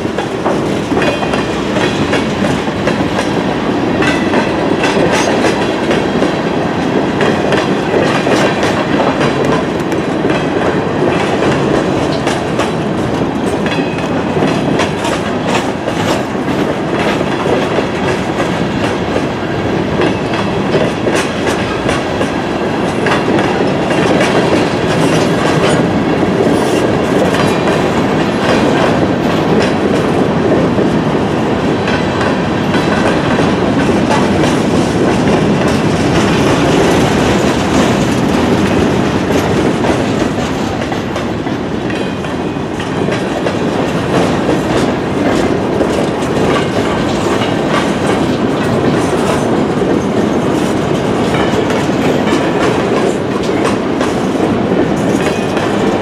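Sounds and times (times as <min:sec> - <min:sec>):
freight train rumbling past: 0:00.0 - 0:56.0
wheels clicking over rail joints: 0:00.0 - 0:56.0.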